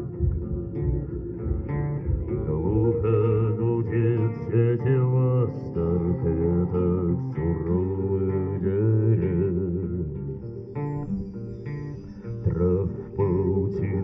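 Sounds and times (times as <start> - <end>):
bass: 0.0 - 14.0
plucked guitar: 0.0 - 14.0.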